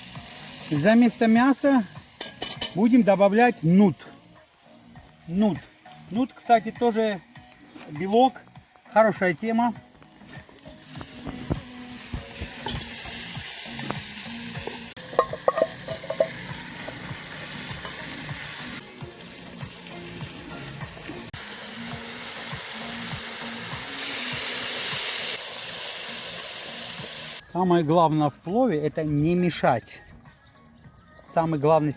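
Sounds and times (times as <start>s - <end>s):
food sizzling in a pot: 0.0s - 8.9s, 9.7s - 27.4s.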